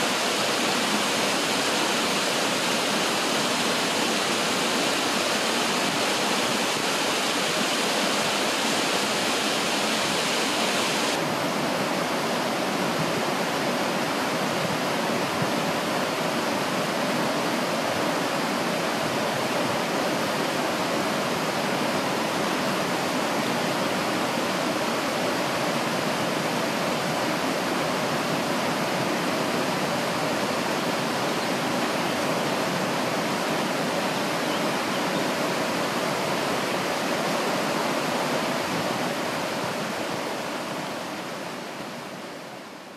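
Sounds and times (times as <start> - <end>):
river rushing over stones: 0.0 - 42.9.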